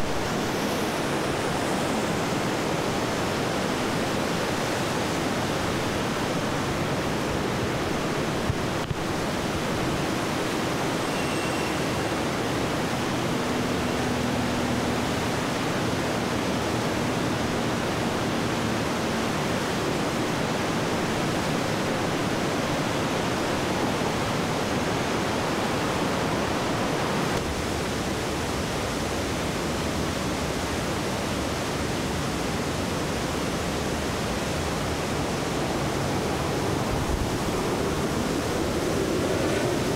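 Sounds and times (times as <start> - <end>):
river rushing through rapids: 0.0 - 39.9.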